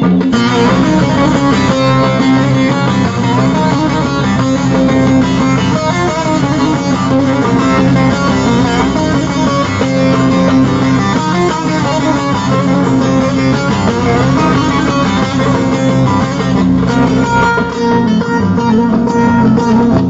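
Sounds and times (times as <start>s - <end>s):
plucked string folk music: 0.0s - 20.0s.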